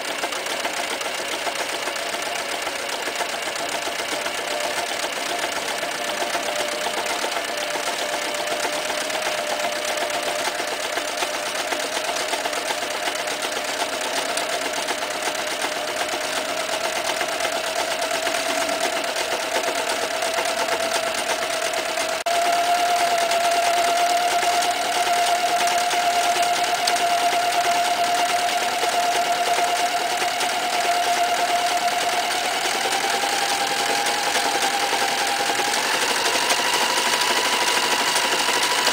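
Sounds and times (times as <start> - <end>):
sewing machine motor whine: 0.0 - 38.9.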